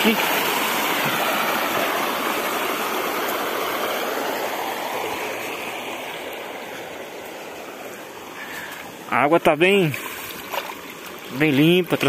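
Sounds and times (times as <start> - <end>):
water rushing over rock: 0.0 - 12.0.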